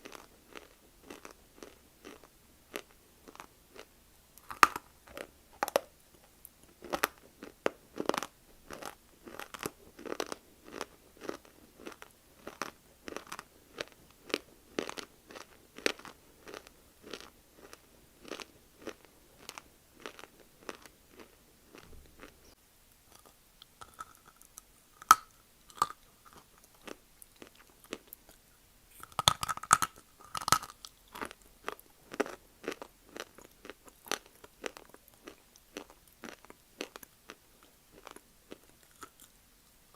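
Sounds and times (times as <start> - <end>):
crunching and chewing clay: 0.0 - 39.8.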